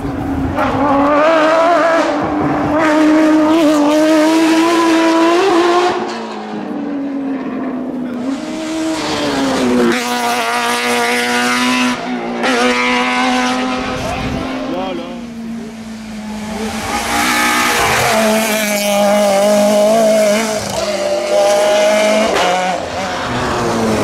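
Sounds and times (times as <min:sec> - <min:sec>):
rally car engine at full throttle: 0:00.0 - 0:24.0
rally car engine revving hard: 0:00.2 - 0:24.0.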